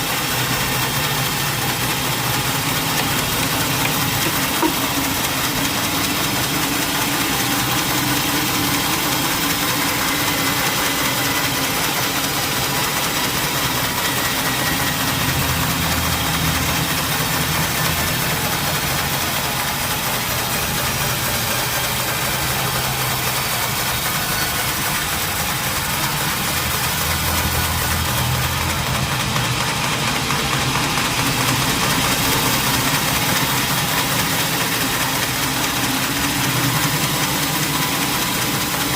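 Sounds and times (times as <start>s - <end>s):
sawmill machinery engine running: 0.0s - 38.9s.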